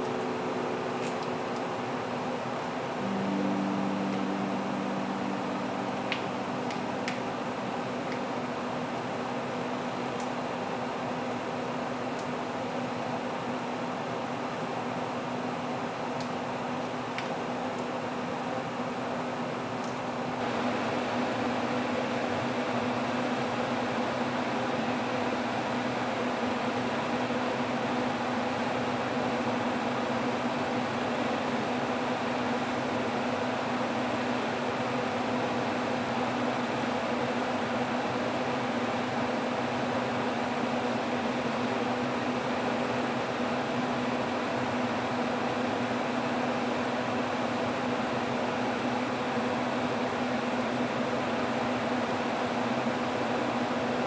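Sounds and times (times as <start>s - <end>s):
fan whirring with low hum: 0.0s - 54.0s.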